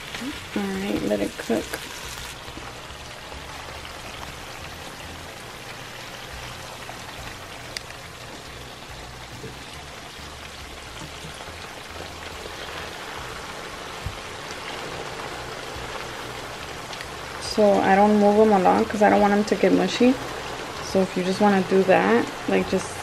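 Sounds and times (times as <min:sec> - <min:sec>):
potatoes sizzling in oil: 0:00.0 - 0:23.0.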